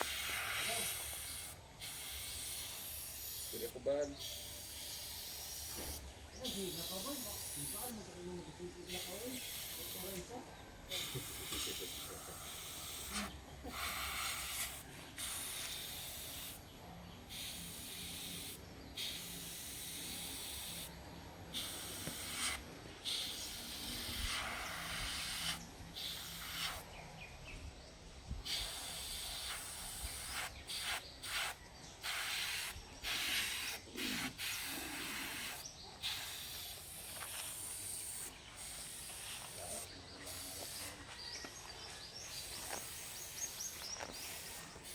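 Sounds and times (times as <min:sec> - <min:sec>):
airbrush spraying hiss: 0:00.0 - 0:27.0, 0:28.3 - 0:44.9.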